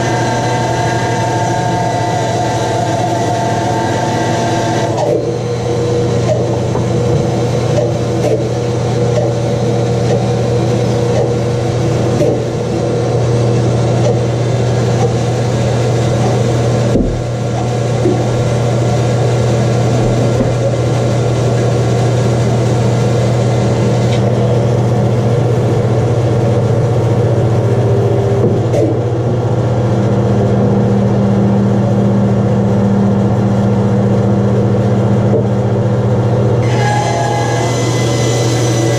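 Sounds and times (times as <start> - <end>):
bandsaw hum: 0.0 - 31.2, 35.3 - 38.9.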